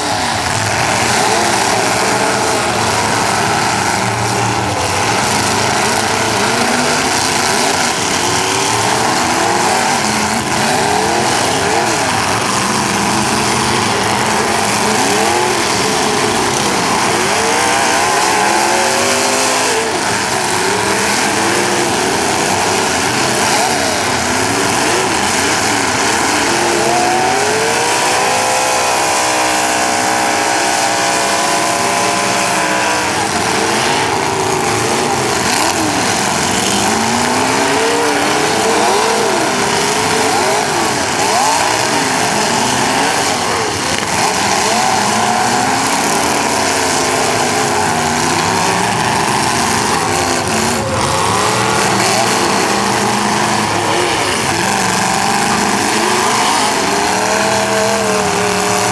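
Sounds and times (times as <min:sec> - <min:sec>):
car engines revving: 0:00.0 - 0:58.9.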